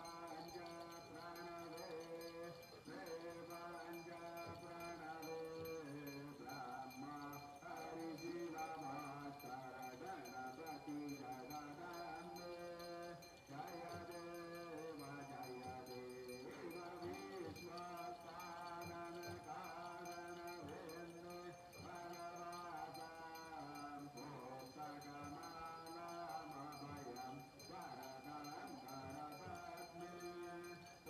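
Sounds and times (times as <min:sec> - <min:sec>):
small brass hand bell ringing: 0:00.0 - 0:31.0.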